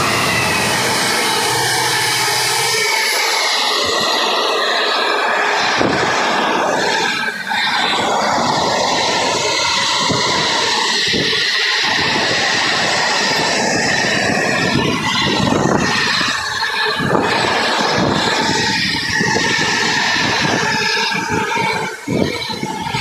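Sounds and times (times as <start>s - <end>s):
train wheels rushing on rails: 0.0s - 23.0s.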